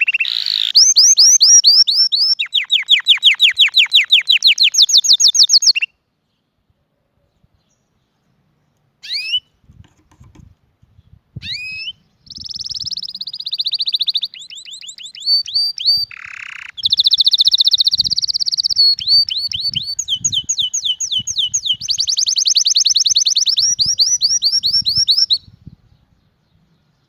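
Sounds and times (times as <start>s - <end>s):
canary singing trills: 0.0s - 6.0s, 9.0s - 9.6s, 11.0s - 27.0s.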